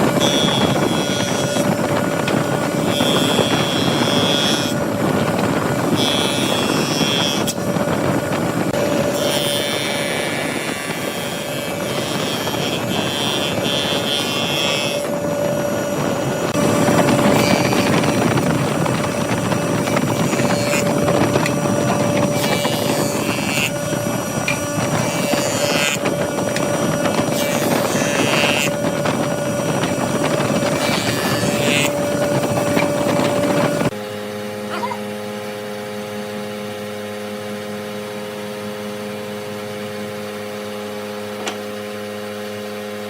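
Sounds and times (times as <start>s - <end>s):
turning tool scraping wood: 0.0s - 15.6s, 16.5s - 35.1s, 41.4s - 41.9s
wood lathe motor hum: 0.0s - 36.0s.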